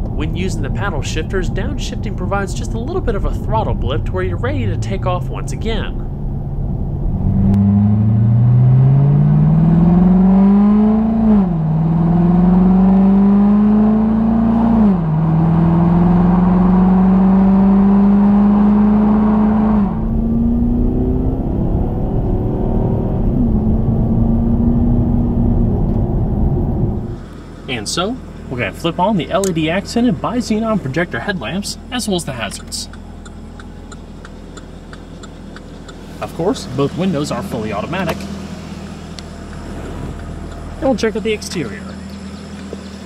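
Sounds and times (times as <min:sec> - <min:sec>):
car engine accelerating through gears: 0:00.0 - 0:43.0.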